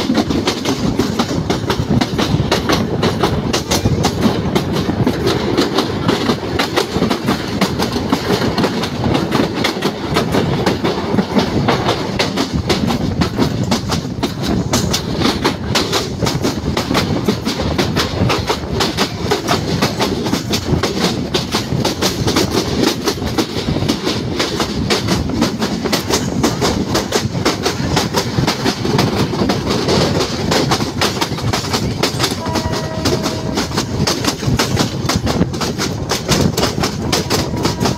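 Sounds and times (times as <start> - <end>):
train rumble: 0.0 - 37.9
train wheels clattering: 0.0 - 37.9.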